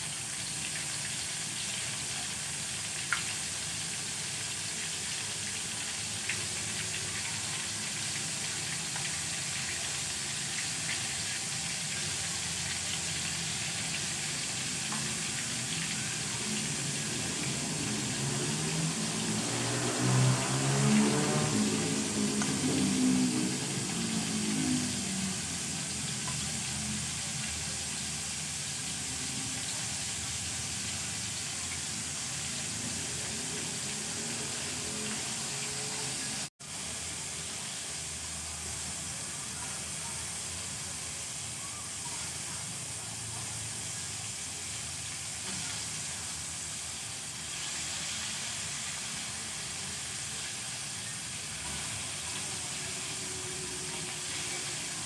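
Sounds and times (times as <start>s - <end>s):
hot oil sizzling: 0.0s - 55.0s.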